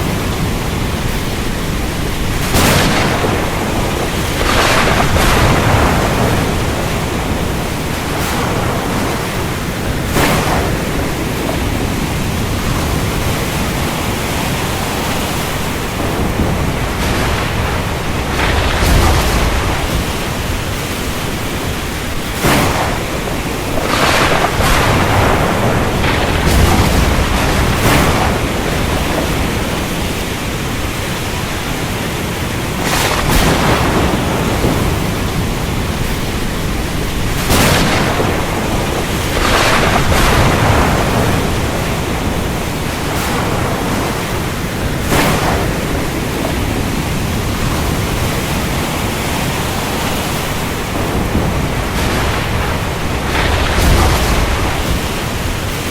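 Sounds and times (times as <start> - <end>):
heavy rain: 0.0 - 55.9
thunder rumbling: 0.0 - 55.9.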